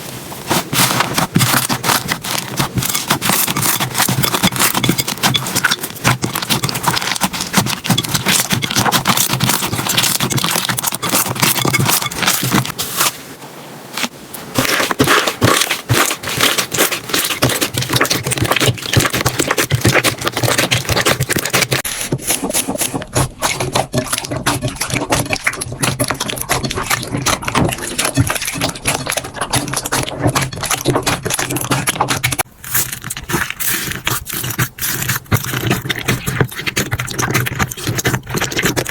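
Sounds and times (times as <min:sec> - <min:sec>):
slime squished by hand: 0:00.4 - 0:13.2, 0:14.0 - 0:38.9.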